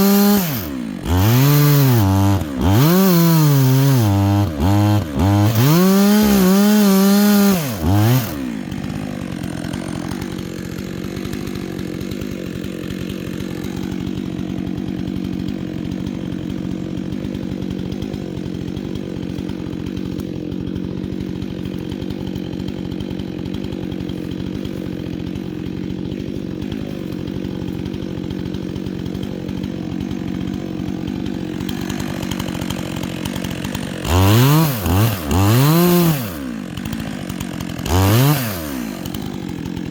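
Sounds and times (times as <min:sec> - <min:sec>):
chainsaw engine revving and idling: 0:00.0 - 0:39.9.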